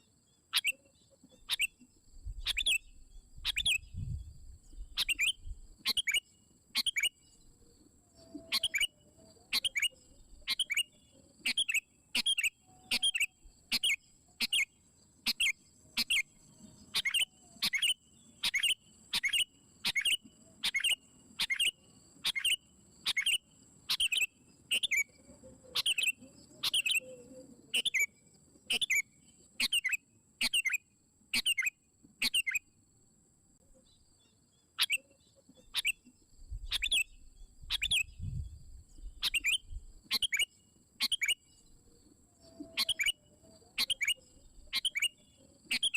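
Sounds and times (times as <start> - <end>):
bird sharp chirps: 0.0 - 7.4, 8.2 - 32.6, 33.9 - 41.6, 42.4 - 45.9.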